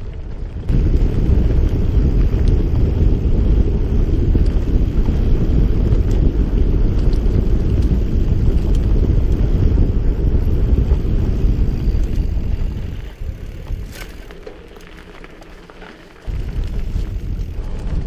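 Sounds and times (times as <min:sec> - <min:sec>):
bike tyre noise: 0:00.0 - 0:18.0
wind buffeting microphone: 0:00.0 - 0:18.0.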